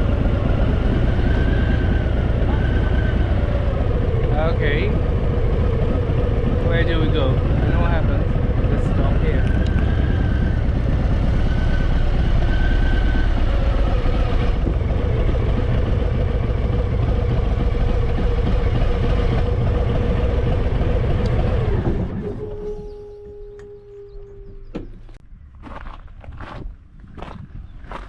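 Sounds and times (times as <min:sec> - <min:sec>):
motorcycle engine running: 0:00.0 - 0:25.2
road noise: 0:00.0 - 0:28.0.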